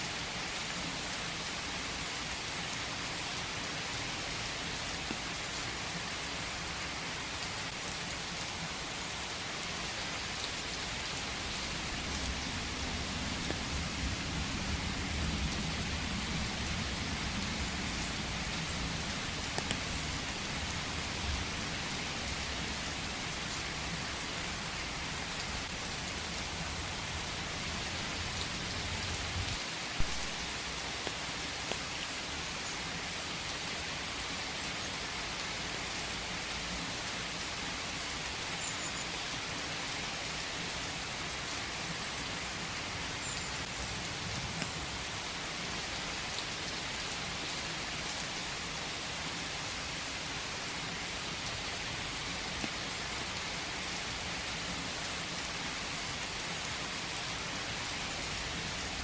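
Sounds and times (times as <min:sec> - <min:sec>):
rain falling in forest: 0:00.0 - 0:59.0.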